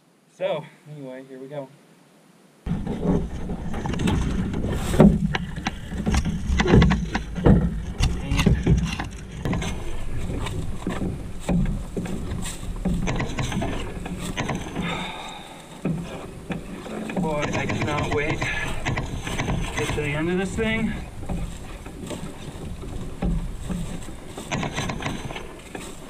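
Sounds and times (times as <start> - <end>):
canoe knocking and rubbing: 2.7 - 26.0
footsteps on trail: 2.7 - 26.0
steady low rumble: 2.7 - 26.0.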